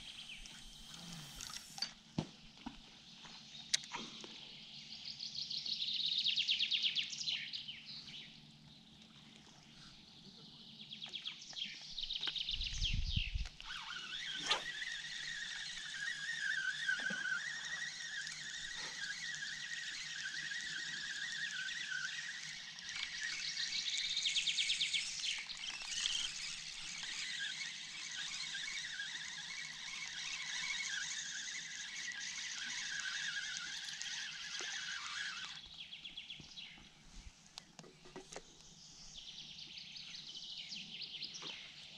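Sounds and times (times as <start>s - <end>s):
songbirds singing: 0.0s - 1.4s, 3.0s - 37.0s, 37.6s - 41.9s.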